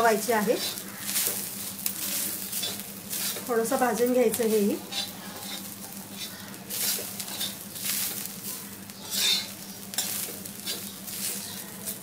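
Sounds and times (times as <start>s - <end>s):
light sizzle: 0.0s - 12.0s
spatula scraping a pan: 0.4s - 3.8s, 4.5s - 12.0s.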